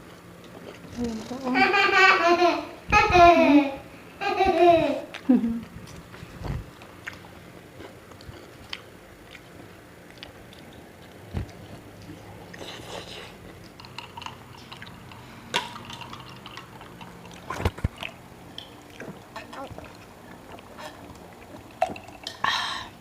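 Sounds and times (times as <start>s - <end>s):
quiet chewing: 0.0s - 1.3s, 5.1s - 22.6s.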